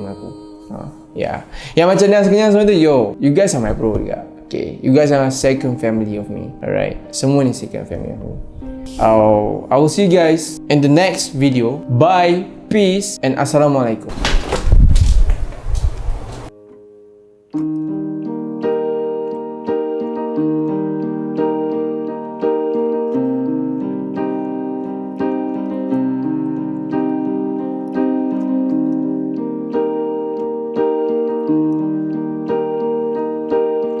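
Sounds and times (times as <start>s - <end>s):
piano playing repeating chords: 1.0s - 13.8s, 17.6s - 34.0s.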